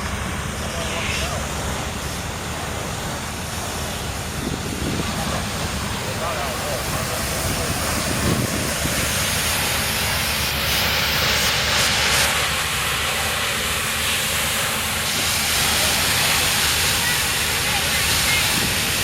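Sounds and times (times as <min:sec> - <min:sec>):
low engine rumble: 0:00.0 - 0:19.0
water spraying from hoses: 0:00.0 - 0:19.0.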